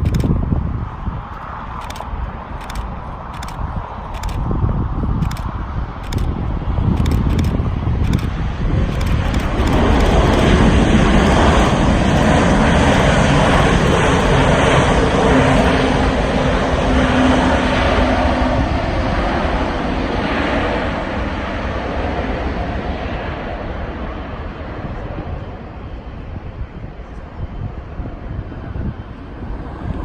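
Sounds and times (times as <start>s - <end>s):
jet plane landing: 0.0s - 30.0s.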